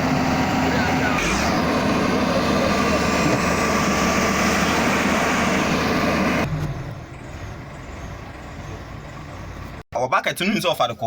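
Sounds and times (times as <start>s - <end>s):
heavy vehicle engine running: 0.0s - 9.8s.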